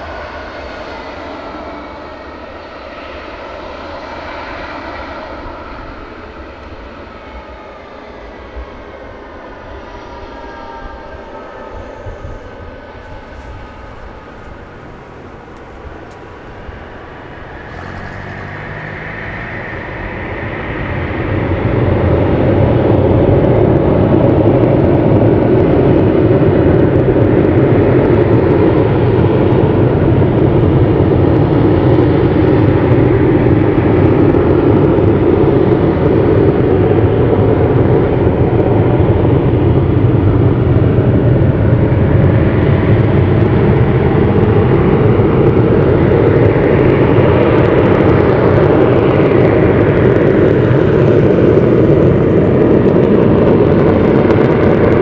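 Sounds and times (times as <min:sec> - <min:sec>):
jet engines running at high power: 0:00.0 - 0:55.0.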